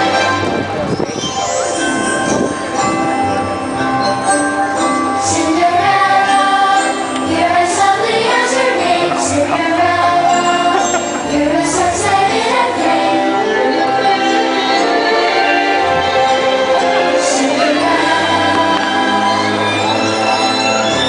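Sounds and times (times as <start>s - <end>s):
jingling bells: 0.0s - 21.0s
soundtrack music with singing: 0.0s - 21.0s.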